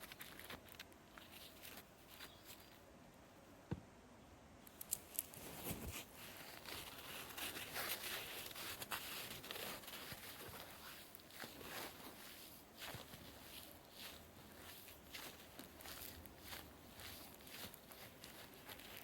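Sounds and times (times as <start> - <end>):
sponge crackling and rustling: 0.0 - 2.9, 4.7 - 19.0.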